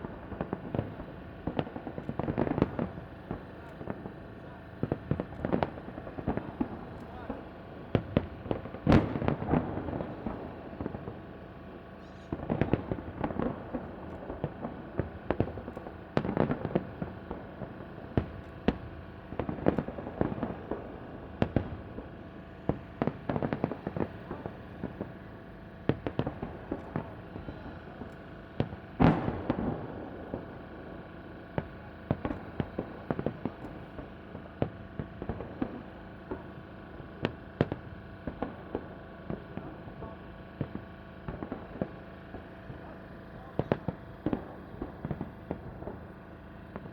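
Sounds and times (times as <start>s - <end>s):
fireworks bangs and pops: 0.0s - 46.9s.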